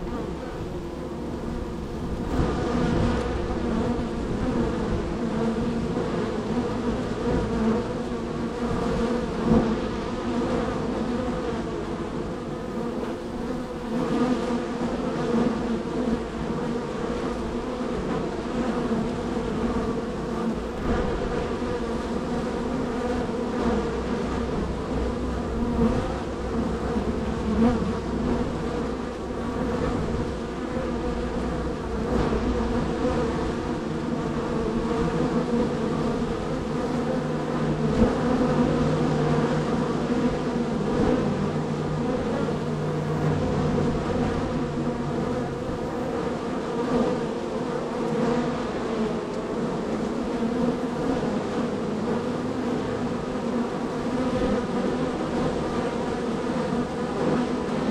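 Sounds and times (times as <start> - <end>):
honey bees buzzing: 0.0 - 57.9.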